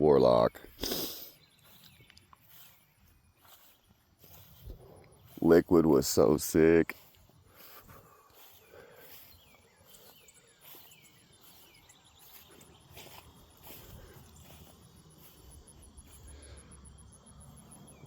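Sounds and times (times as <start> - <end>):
crickets chirping: 3.1 - 18.0.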